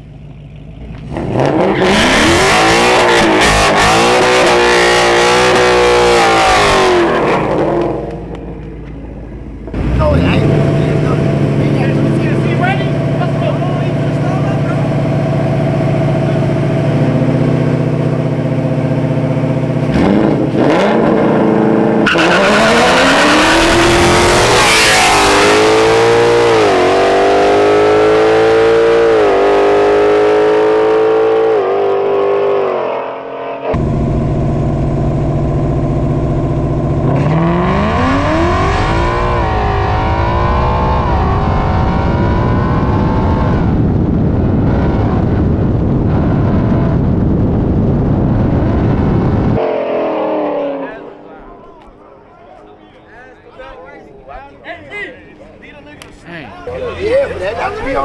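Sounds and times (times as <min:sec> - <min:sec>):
cars accelerating through gears: 0:01.0 - 0:08.4, 0:09.7 - 0:45.5, 0:48.4 - 0:51.8.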